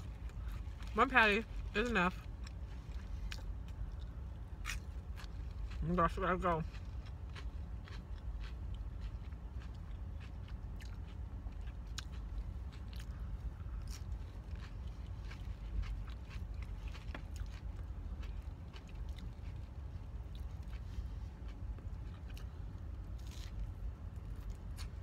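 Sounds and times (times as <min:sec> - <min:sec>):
person chewing and crunching food: 0:00.0 - 0:25.0
steady low hum: 0:00.0 - 0:25.0.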